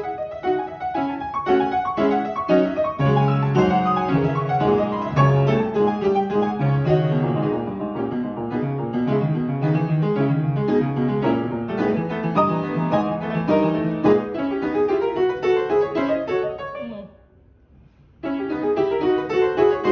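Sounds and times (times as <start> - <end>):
classical piano piece: 0.0 - 17.2, 18.1 - 19.9.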